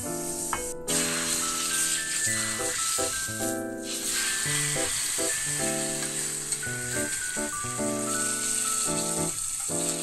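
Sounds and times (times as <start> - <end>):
light background music: 0.0 - 10.0
meat sizzling in hot oil: 0.0 - 10.0.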